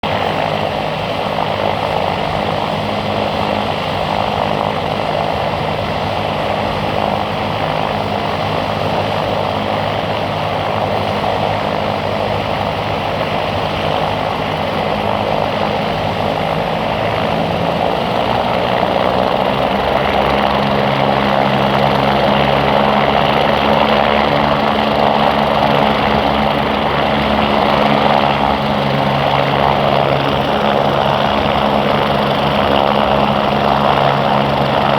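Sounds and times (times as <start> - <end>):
helicopter engine and rotor hum: 0.0 - 34.9.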